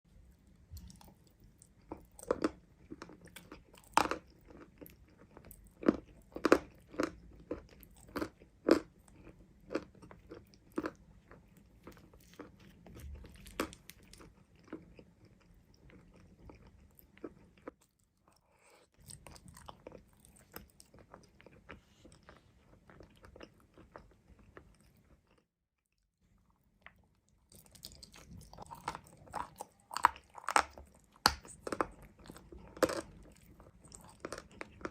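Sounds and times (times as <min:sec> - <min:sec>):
soft chewing: 0:00.1 - 0:34.9.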